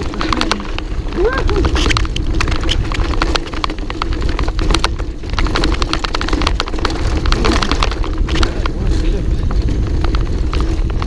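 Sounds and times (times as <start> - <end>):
bike clattering over bumps: 0.0 - 11.0
steady low rumble: 0.0 - 11.0.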